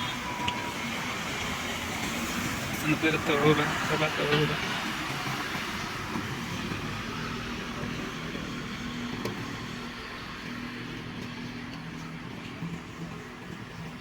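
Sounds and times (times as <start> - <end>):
road or rain hiss: 0.0 - 12.2
vehicle engine running: 0.0 - 14.0.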